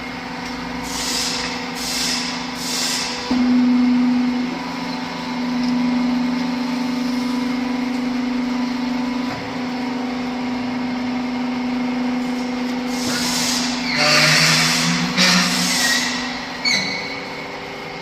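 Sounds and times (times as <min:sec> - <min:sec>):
pump motor humming: 0:00.0 - 0:18.0.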